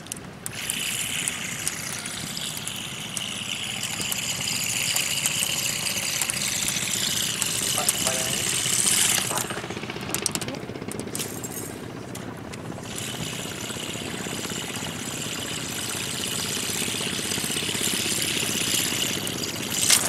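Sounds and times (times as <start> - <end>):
small engine chugging: 0.0 - 20.0.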